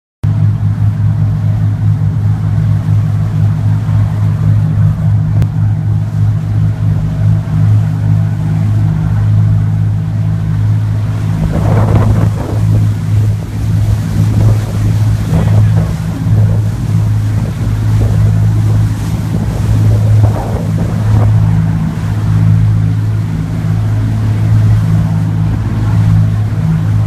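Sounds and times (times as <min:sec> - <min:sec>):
engine droning: 0:00.2 - 0:27.0
short noisy rush: 0:01.9 - 0:27.0.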